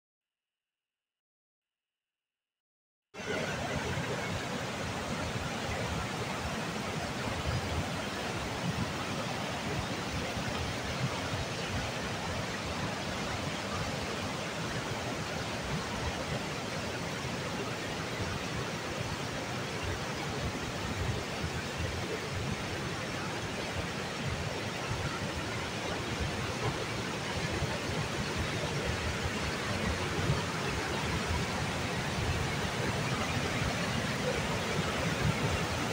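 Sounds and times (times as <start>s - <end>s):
river rushing over rocks: 3.2s - 35.9s.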